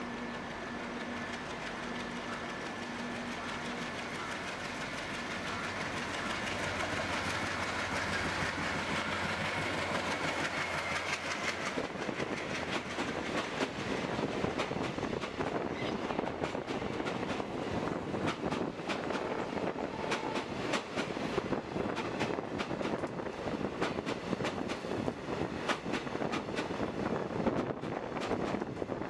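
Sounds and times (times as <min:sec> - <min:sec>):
clickety-clack of train wheels: 0:00.0 - 0:29.0
diesel locomotive running: 0:00.0 - 0:29.0.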